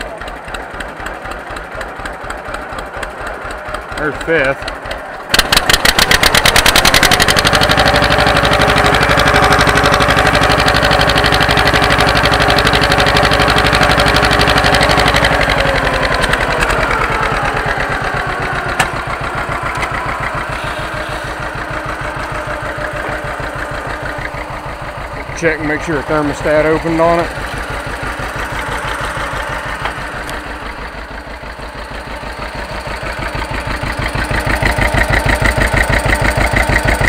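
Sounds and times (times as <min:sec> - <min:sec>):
tractor engine running hard: 0:00.0 - 0:37.0.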